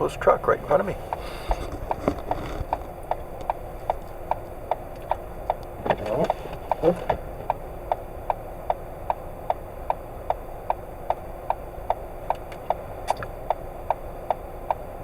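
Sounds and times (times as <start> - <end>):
low road noise: 0.0 - 15.0
car turn signal ticking: 0.3 - 15.0.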